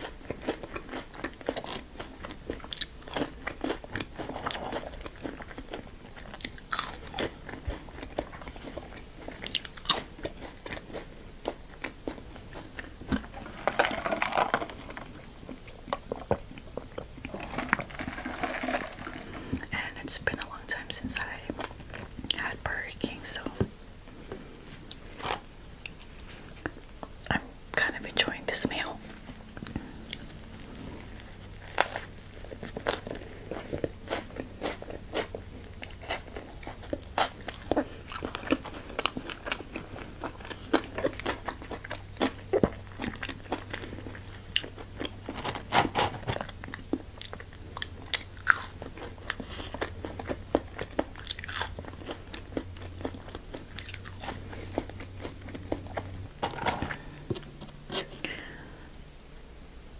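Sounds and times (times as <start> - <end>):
crunching bites and chewing: 0.0 - 22.5, 29.2 - 58.6
faint low hum: 0.0 - 59.9.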